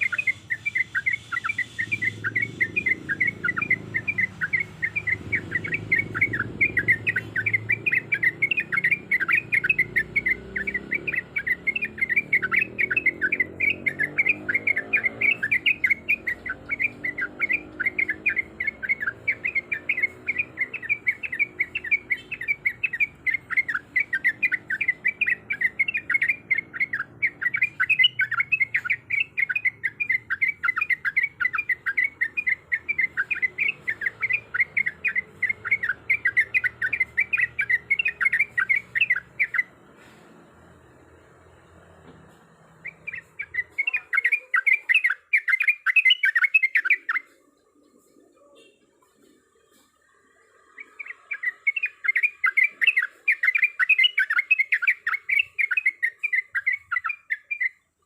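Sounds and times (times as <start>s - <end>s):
bird singing rolling song: 0.0s - 58.0s.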